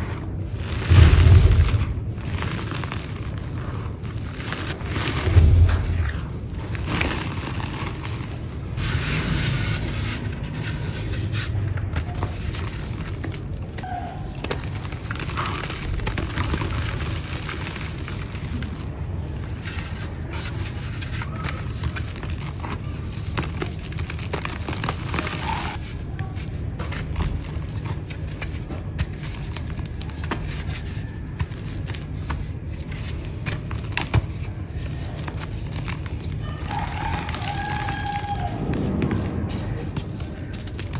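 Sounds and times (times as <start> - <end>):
dry mud crumbling and crunching: 0.0 - 40.9.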